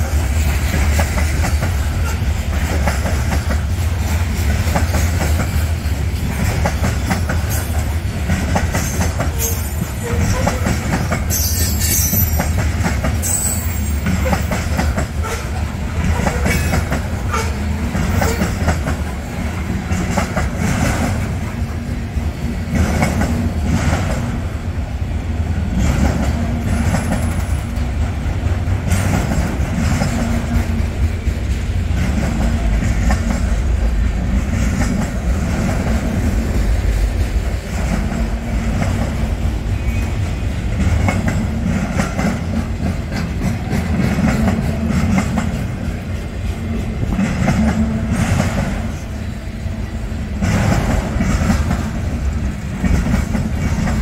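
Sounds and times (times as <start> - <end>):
wheels clacking over rail joints: 0.0 - 24.6, 25.7 - 54.0
freight train rumbling past: 0.0 - 54.0.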